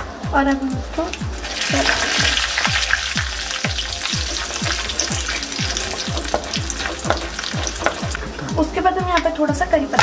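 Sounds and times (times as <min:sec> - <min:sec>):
background music with low beat: 0:00.0 - 0:10.0
spices sizzling in hot oil: 0:00.4 - 0:09.4.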